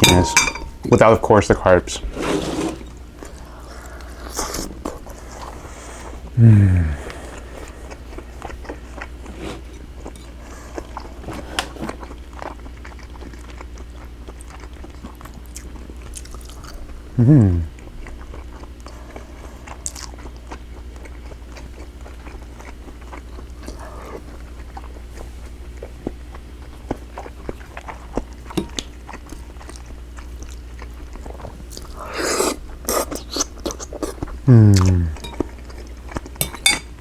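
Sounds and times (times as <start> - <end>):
person chewing food: 3.1 - 37.0.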